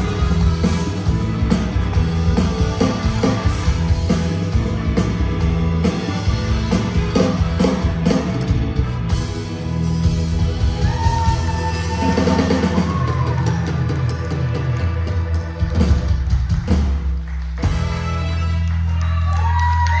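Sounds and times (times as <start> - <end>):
drum kit: 0.0 - 19.5
bass guitar: 0.0 - 20.0
electric guitars: 0.0 - 20.0.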